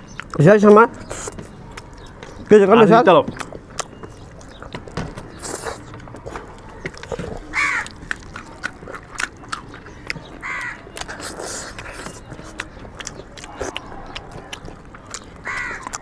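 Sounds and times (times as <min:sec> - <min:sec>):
wet chewing and lip-smacking: 0:00.0 - 0:16.0.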